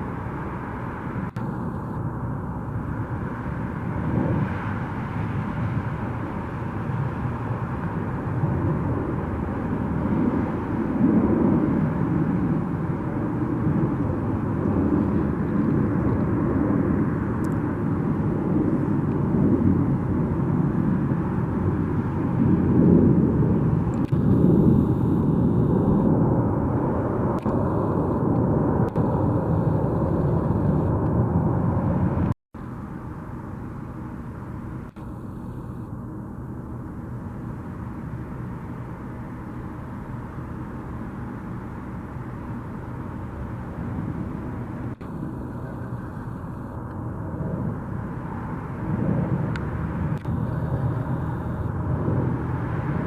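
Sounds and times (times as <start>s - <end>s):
jet engine roar: 0.0s - 53.0s.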